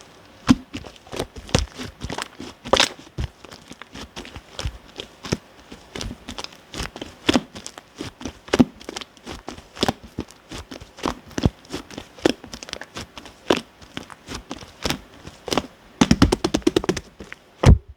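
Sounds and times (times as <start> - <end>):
slime squishing with sticky pops: 0.3 - 17.9.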